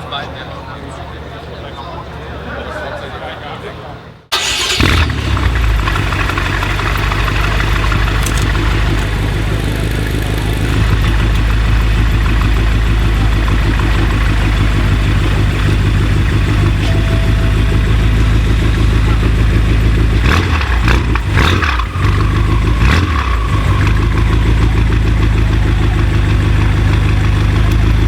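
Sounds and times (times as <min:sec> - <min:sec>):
car engine idling and revving: 0:04.3 - 0:28.0.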